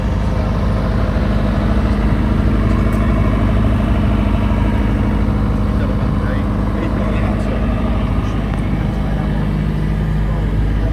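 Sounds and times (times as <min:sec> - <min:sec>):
diesel generator running: 0:00.0 - 0:10.9.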